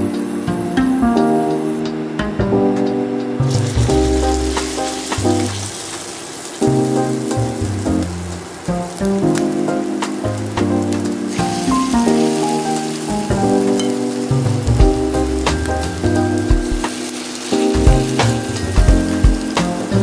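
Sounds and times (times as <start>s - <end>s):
background music: 0.0s - 5.8s, 6.6s - 20.0s
batter sizzling in oil: 3.4s - 20.0s.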